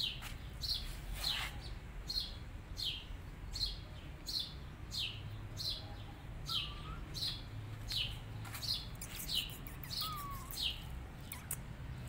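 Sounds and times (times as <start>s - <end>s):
bird chirping: 1.6s - 12.0s.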